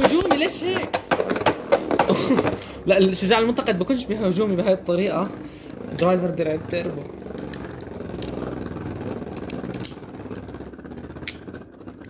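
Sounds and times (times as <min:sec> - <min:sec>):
spinning tops whirring: 0:00.0 - 0:12.0.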